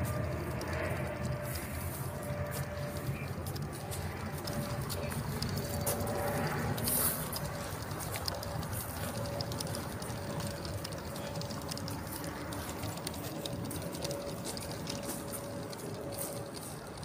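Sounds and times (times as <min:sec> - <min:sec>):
model locomotive rushing: 0:00.0 - 0:17.0.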